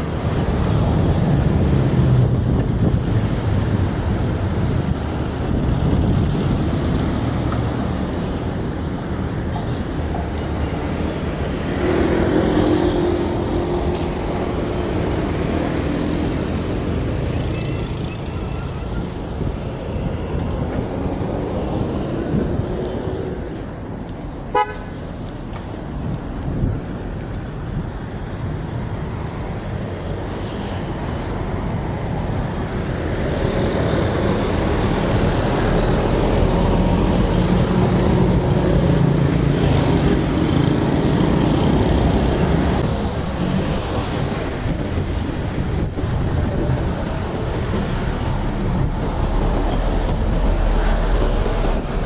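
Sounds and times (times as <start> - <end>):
street traffic: 0.0 - 52.0.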